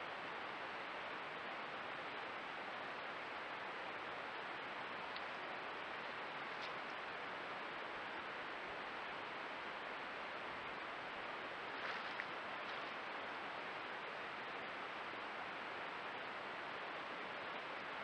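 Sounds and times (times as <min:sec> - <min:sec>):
microphone hiss: 0:00.0 - 0:18.0.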